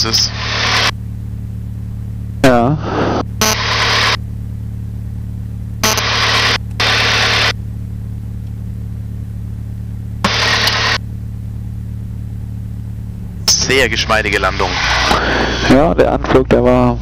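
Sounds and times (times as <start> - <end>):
piston engine droning: 0.0 - 17.0.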